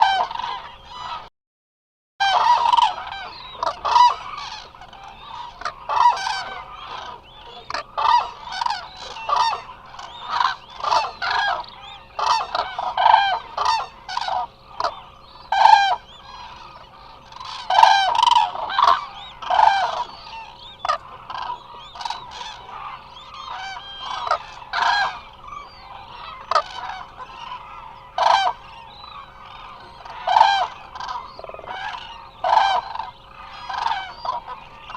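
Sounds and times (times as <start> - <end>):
cranes calling: 0.0 - 1.3, 2.2 - 34.9.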